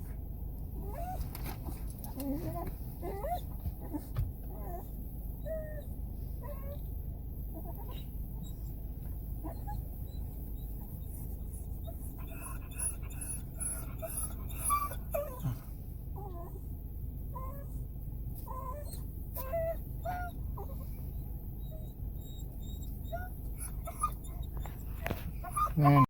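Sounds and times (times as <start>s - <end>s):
dog whining and whimpering: 0.7s - 16.7s, 17.3s - 26.0s.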